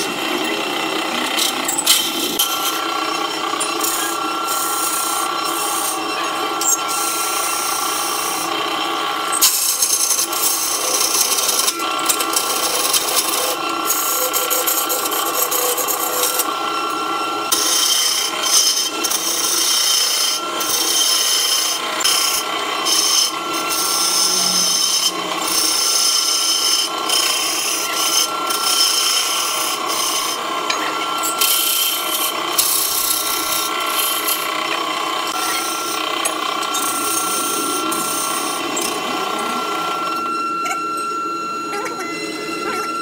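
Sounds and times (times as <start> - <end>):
thin steady whine: 0.0 - 43.0
turning tool scraping spinning wood: 0.0 - 43.0.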